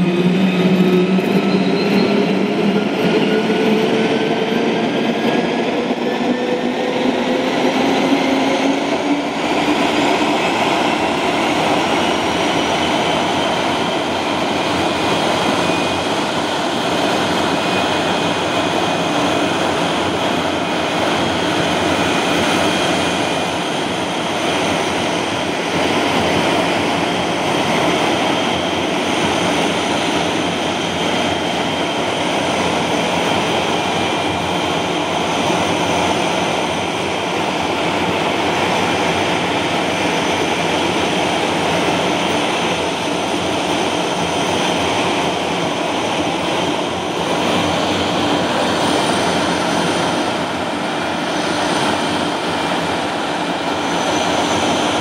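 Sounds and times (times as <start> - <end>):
jet engine roaring: 0.0 - 55.0.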